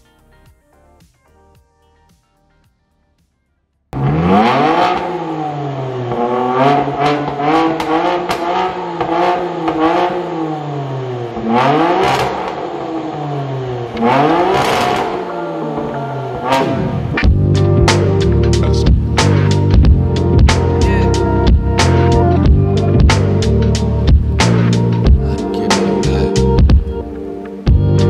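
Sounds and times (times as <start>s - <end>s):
car engine idling and revving: 4.0s - 28.0s.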